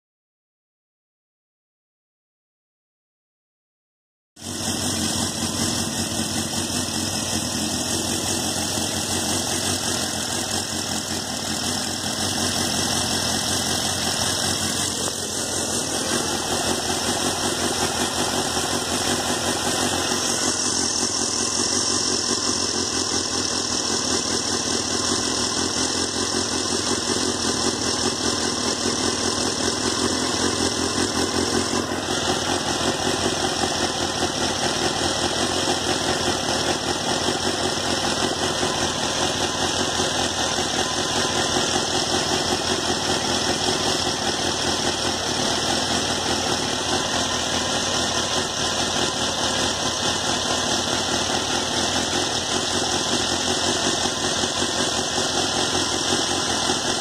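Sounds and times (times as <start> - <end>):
motorcycle engine idling: 4.4 - 57.0.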